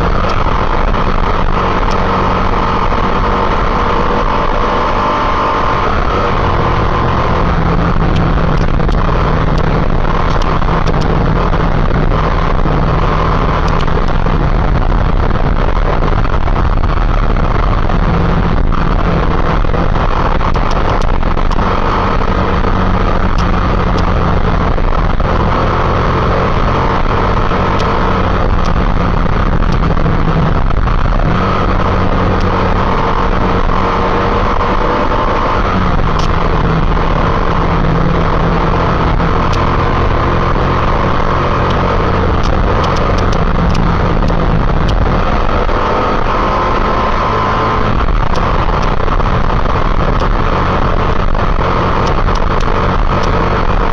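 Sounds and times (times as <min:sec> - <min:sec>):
motorcycle engine running: 0:00.0 - 0:53.9
wind rush: 0:00.0 - 0:53.9.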